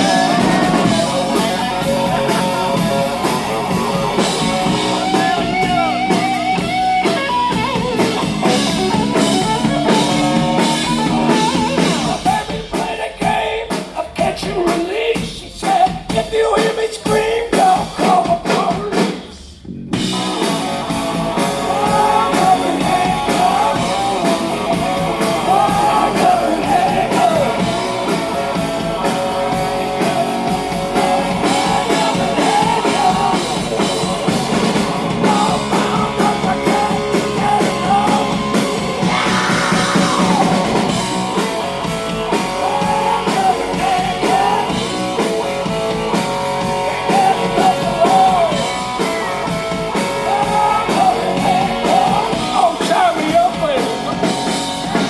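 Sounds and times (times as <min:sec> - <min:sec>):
electric guitar lead: 0:00.0 - 0:12.3, 0:19.9 - 0:55.0
blues-rock band playing: 0:00.0 - 0:55.0.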